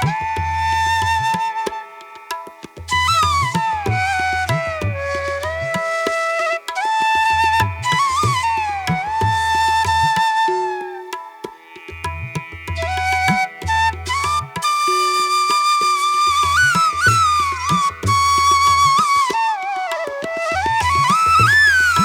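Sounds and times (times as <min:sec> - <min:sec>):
flute melody with gliding notes: 0:00.0 - 0:11.7, 0:12.3 - 0:22.0.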